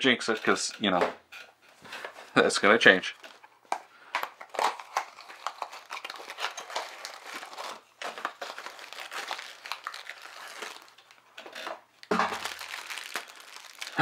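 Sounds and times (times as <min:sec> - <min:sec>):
plastic bags and cardboard crinkling: 0:01.8 - 0:14.0.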